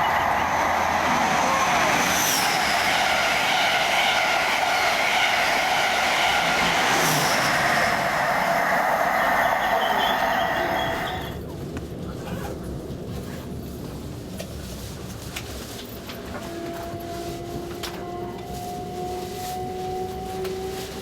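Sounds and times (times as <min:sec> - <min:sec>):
passenger train rumbling: 0:00.0 - 0:21.0.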